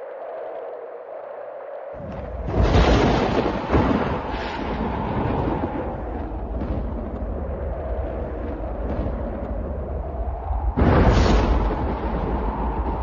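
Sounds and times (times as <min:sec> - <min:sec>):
thunder rolling: 0:02.0 - 0:13.0.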